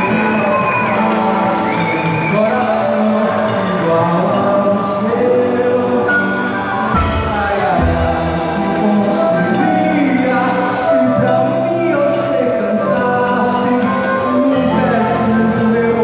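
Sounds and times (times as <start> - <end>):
person singing with music: 0.0 - 16.0.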